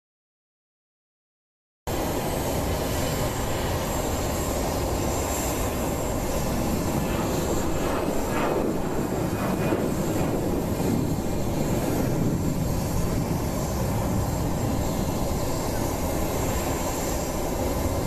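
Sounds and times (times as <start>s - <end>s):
jet turbine rumble and whine: 1.9s - 18.0s.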